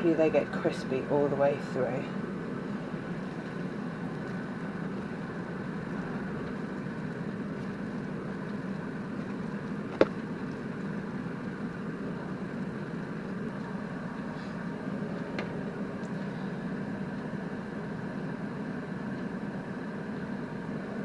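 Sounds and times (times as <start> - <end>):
air fryer fan humming: 0.0 - 21.0.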